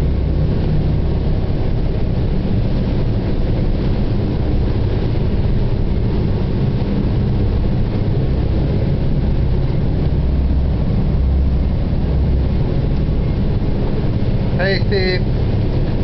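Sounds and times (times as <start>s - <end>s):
boat machinery droning: 0.0s - 16.0s.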